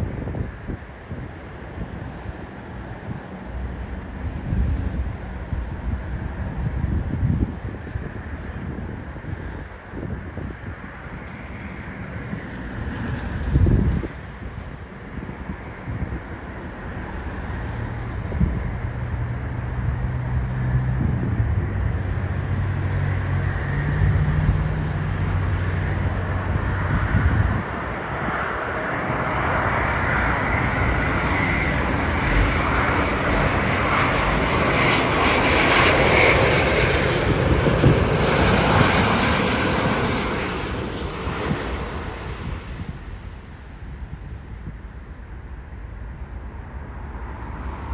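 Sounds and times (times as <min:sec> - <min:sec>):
jet airliner roar passing: 0:00.0 - 0:44.0.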